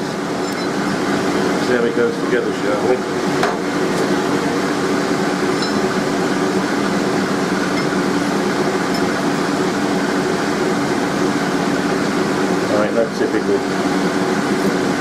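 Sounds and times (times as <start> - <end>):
mechanical fan humming: 0.0 - 15.0.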